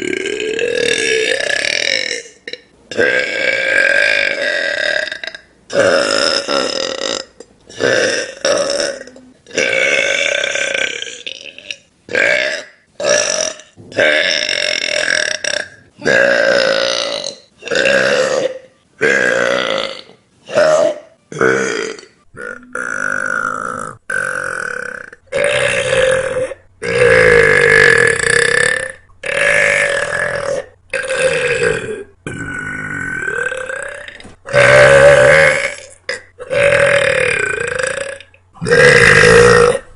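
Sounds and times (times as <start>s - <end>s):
woman burping loudly: 0.0s - 39.9s.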